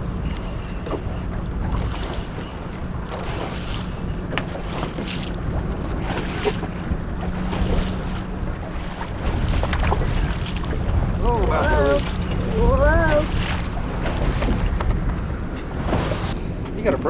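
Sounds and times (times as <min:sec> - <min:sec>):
water lapping against hull: 0:00.0 - 0:17.0
wind buffeting microphone: 0:00.0 - 0:17.0.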